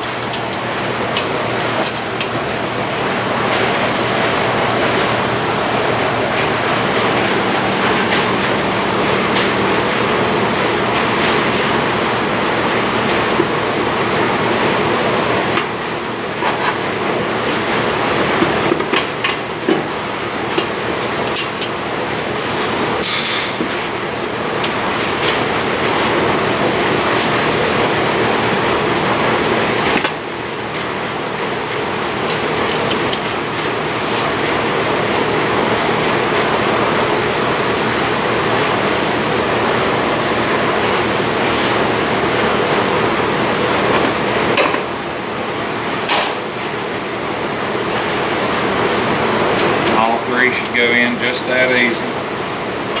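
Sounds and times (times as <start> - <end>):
ventilation rushing: 0.0 - 53.0.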